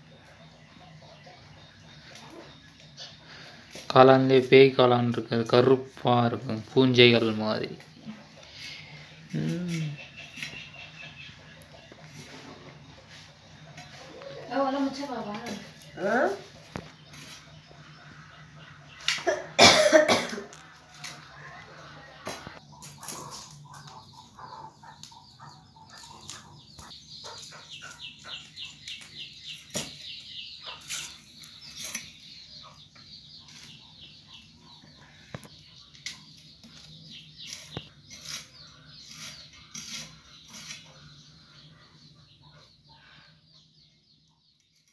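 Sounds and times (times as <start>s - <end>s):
bird calls: 0.0s - 44.9s.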